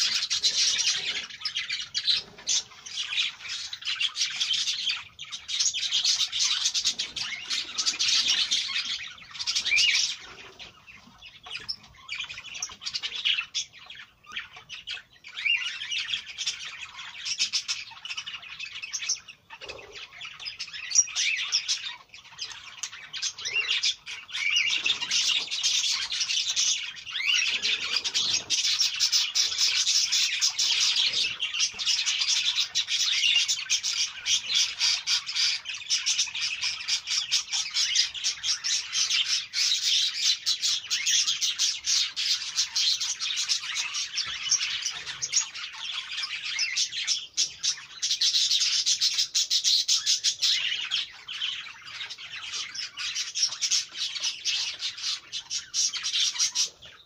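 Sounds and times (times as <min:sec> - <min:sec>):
birds chattering and chirping: 0:00.0 - 0:57.0.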